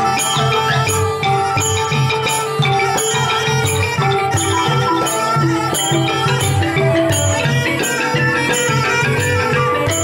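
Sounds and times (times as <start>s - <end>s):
held wind instrument line: 0.0s - 10.0s
xylophone melody: 0.0s - 10.0s.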